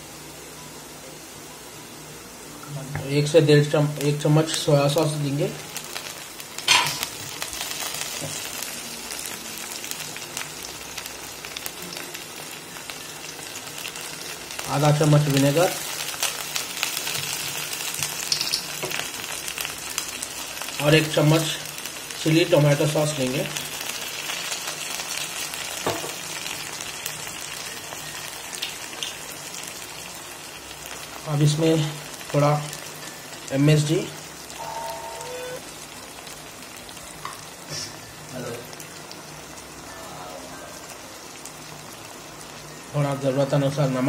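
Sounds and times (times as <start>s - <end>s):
vegetables frying in hot oil: 0.0s - 44.0s.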